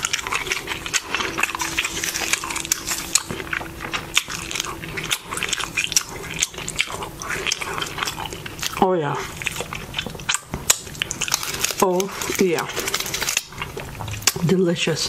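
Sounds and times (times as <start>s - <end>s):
wet chewing with mouth clicks: 0.0s - 15.0s.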